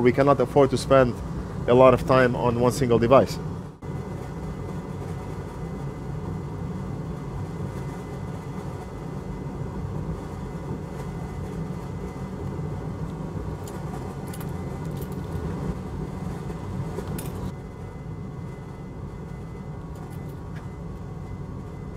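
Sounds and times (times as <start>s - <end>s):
faint steady whine: 0.0s - 21.9s
fan whirring: 0.0s - 21.9s.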